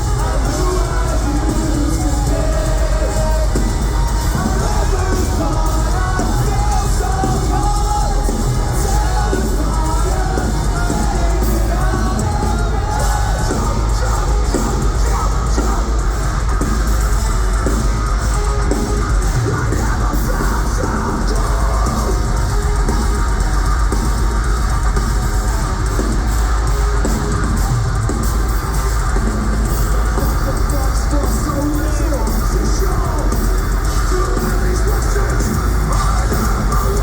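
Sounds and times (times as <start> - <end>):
distorted guitars and bass: 0.0 - 37.0
pounding drum kit: 0.0 - 37.0
yelled vocals: 0.0 - 37.0.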